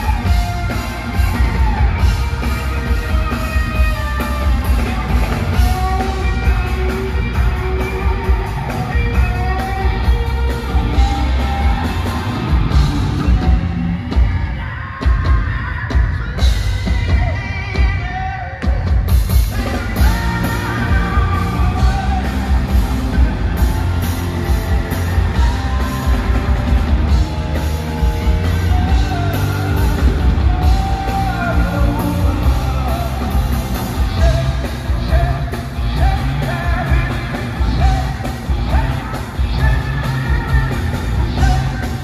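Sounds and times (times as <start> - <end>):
man singing lead: 0.0 - 42.0
rock band playing live: 0.0 - 42.0.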